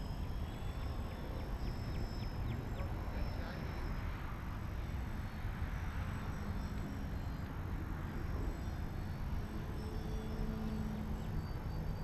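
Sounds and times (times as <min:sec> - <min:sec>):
distant model airplane drone: 0:00.0 - 0:12.0.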